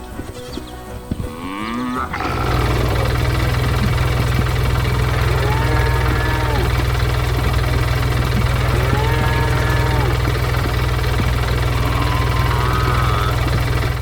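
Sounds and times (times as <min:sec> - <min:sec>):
heavy engine idling: 0:02.1 - 0:14.0.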